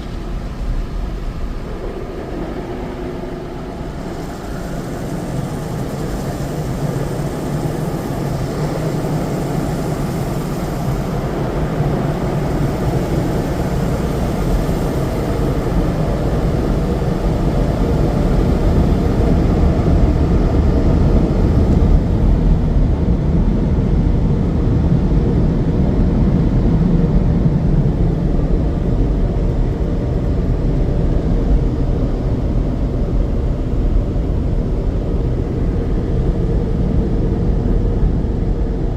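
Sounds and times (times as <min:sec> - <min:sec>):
car wash equipment running: 0:00.0 - 0:38.9.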